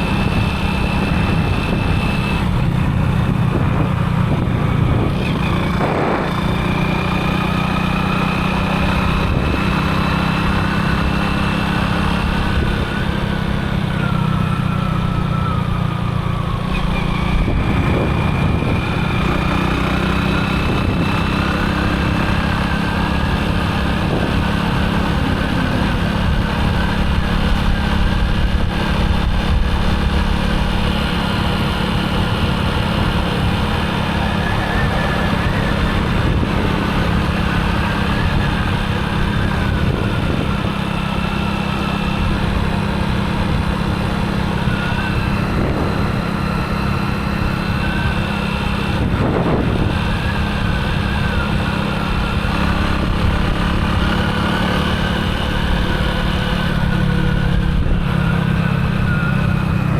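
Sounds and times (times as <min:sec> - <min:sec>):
motorcycle engine running: 0:00.0 - 0:59.9
road noise: 0:00.0 - 0:59.9.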